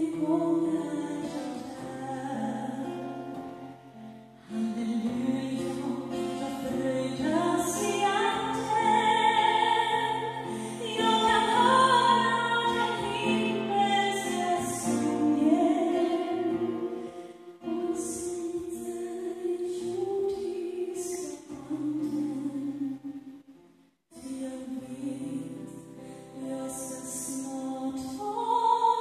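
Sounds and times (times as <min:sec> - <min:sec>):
woman singing a hymn: 0:00.0 - 0:03.2, 0:04.5 - 0:23.0, 0:24.2 - 0:29.0
acoustic guitar: 0:00.0 - 0:29.0.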